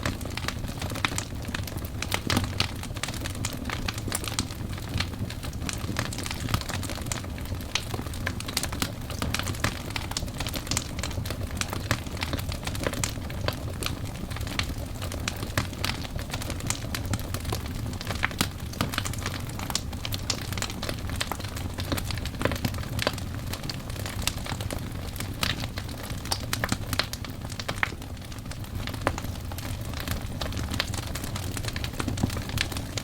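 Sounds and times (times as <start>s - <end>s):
burning logs crackling: 0.0s - 33.0s
fire rumble: 0.0s - 33.0s.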